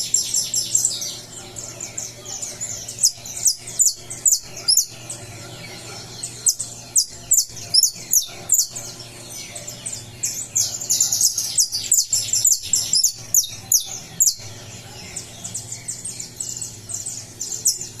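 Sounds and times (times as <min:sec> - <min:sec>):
finch chirping and trilling: 0:00.0 - 0:18.0.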